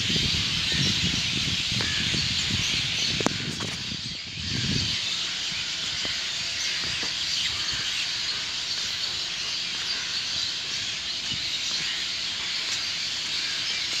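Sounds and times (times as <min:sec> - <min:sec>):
dawn chorus of birds: 0:00.0 - 0:14.0.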